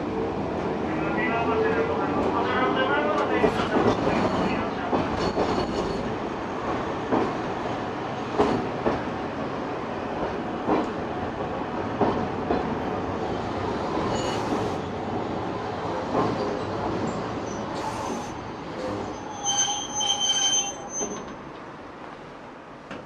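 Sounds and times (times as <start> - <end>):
tram rolling noise: 0.0 - 23.0.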